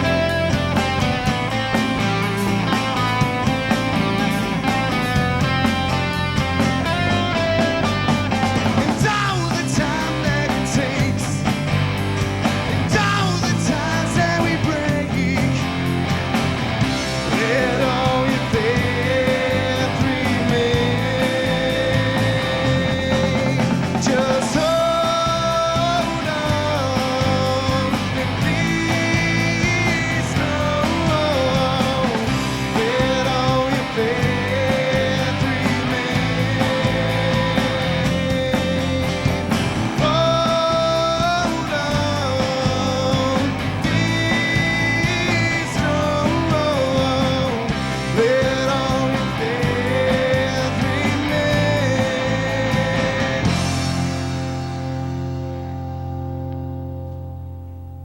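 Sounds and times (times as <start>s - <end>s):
electric guitar lead melody: 0.0s - 58.0s
rock band playing: 0.0s - 58.0s.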